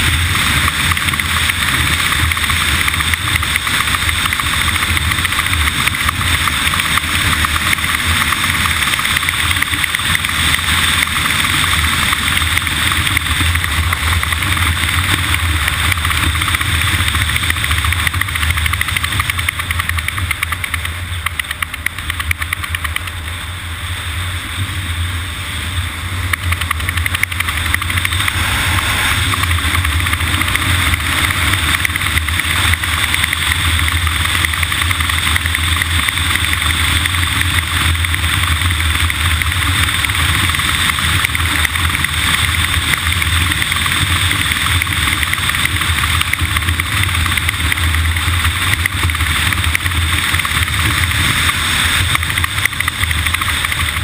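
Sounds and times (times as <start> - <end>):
vehicle road noise: 0.0 - 54.0.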